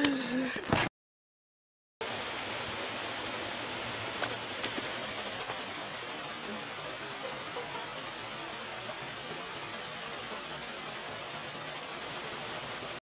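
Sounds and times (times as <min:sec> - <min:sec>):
waterfall rushing over rock: 0:02.0 - 0:13.0.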